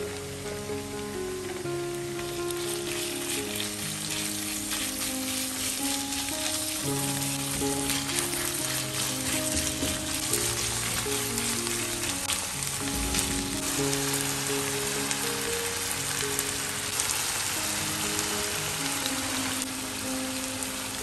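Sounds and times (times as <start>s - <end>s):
meat and onions sizzling in pan: 0.0s - 21.0s
soft background music: 0.0s - 21.0s.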